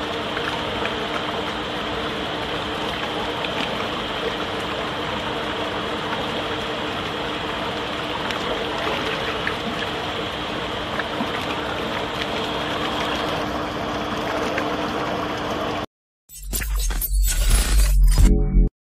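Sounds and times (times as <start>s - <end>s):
mixer machine hum: 0.0s - 15.9s.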